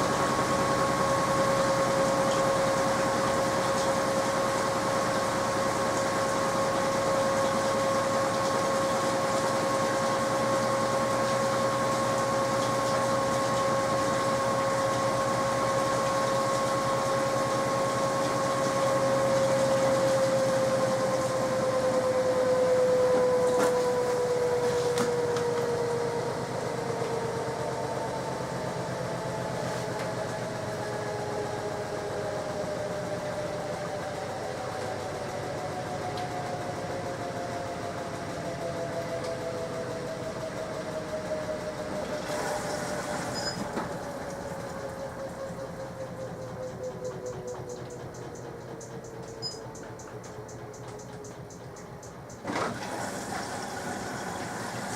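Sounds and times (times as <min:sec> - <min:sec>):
washing machine spinning: 0:00.0 - 0:54.9.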